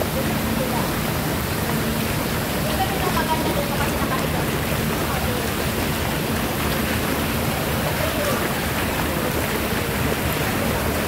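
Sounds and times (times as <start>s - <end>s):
water jets bubbling and rushing: 0.0s - 11.0s.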